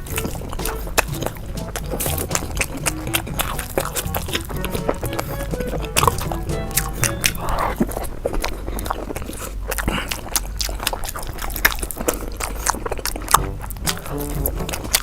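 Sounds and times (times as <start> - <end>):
biting and chewing: 0.0 - 15.0.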